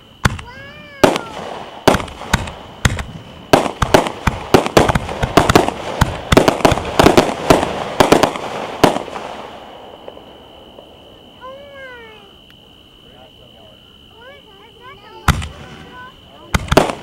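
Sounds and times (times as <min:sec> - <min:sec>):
fireworks bangs: 0:00.0 - 0:12.4, 0:13.0 - 0:17.0.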